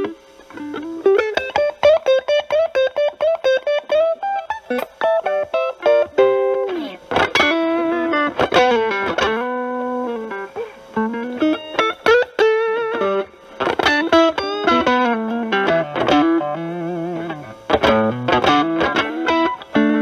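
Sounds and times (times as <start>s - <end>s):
distorted lead guitar blues: 0.0s - 20.0s.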